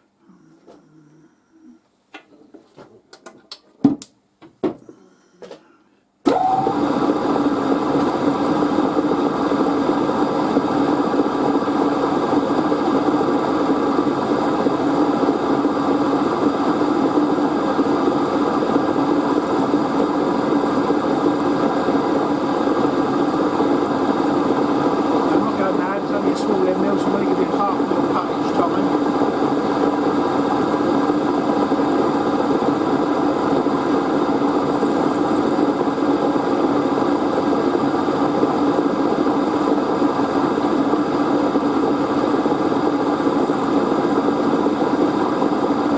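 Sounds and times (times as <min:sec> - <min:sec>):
milling machine humming: 0:06.3 - 0:45.9.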